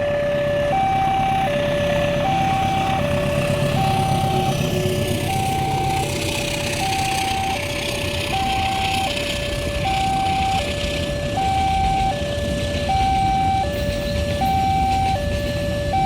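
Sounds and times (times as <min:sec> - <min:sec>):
two-tone level crossing alarm: 0:00.0 - 0:16.0.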